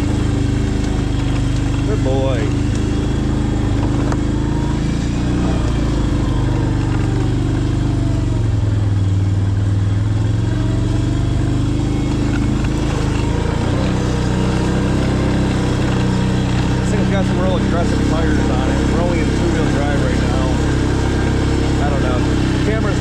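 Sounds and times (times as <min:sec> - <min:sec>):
small vehicle engine running: 0:00.0 - 0:23.0.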